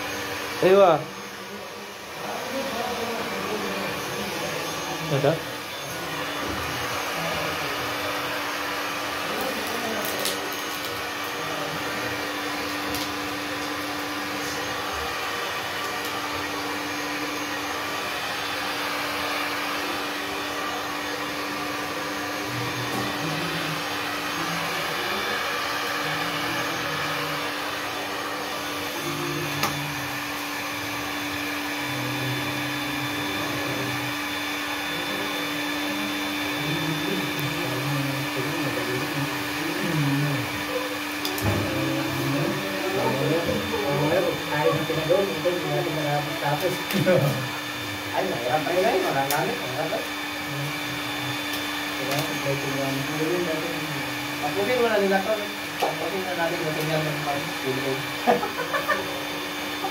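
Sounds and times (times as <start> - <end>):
electric blower motor whirring: 0.0 - 59.9.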